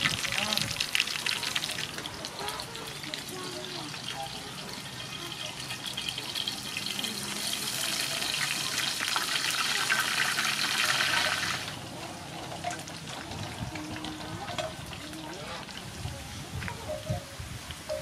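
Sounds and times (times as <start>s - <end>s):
fritter sizzling in hot oil: 0.0s - 17.0s.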